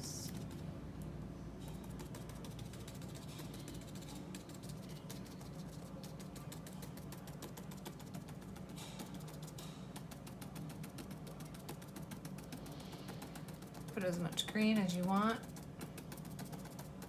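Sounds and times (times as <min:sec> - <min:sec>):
steady low hum: 0:00.0 - 0:17.0
paintbrush tapping on paper: 0:01.7 - 0:17.0.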